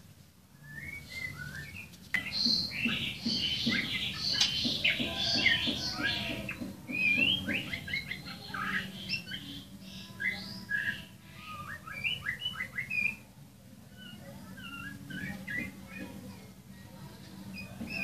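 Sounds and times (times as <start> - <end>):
songbird chirping and whistling: 0.5 - 13.3, 13.9 - 16.2.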